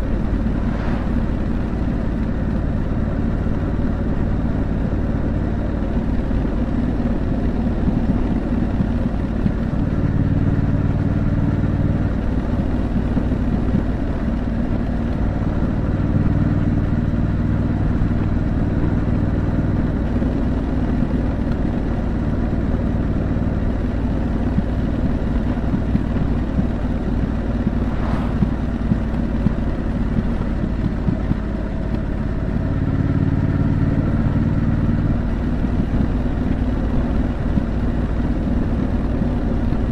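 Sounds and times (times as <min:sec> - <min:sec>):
motorcycle engine running: 0:00.0 - 0:39.9
wind and road rumble: 0:00.0 - 0:39.9.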